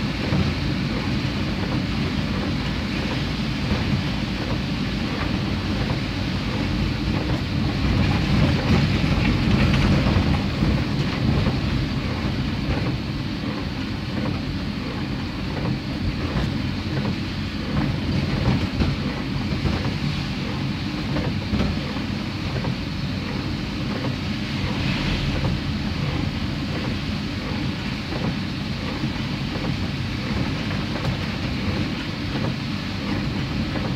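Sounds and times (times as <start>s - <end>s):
engine and tyre rumble: 0.0s - 33.9s
rain pattering on car: 0.0s - 33.9s.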